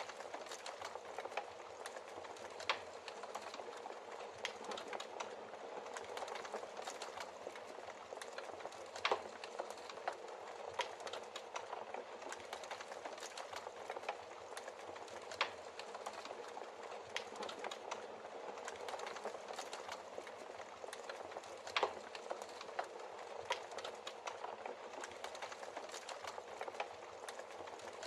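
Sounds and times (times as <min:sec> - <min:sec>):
logs crackling in fireplace: 0:00.0 - 0:28.0.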